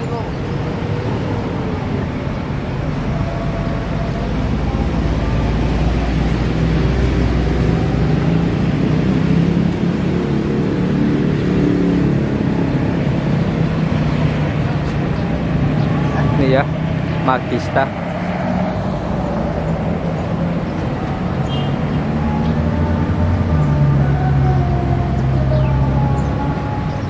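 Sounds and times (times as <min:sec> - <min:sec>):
vehicle engines rumbling: 0:00.0 - 0:27.0.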